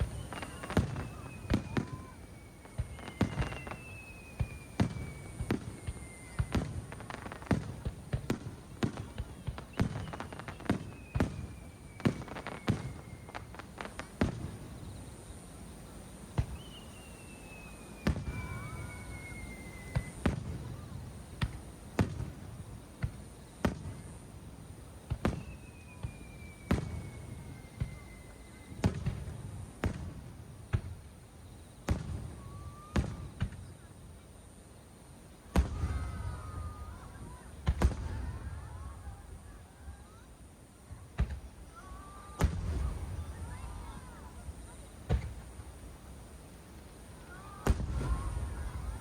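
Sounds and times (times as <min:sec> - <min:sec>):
descending firework whistles: 0:00.0 - 0:49.0.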